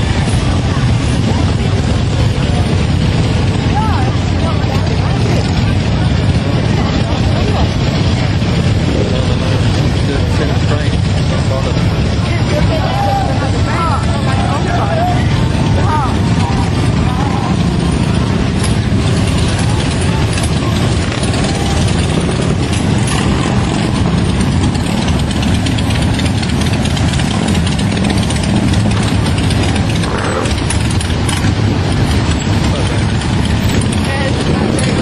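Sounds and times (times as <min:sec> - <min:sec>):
fast mechanical clatter: 0:00.0 - 0:35.0
motorcycle engine running: 0:00.0 - 0:35.0.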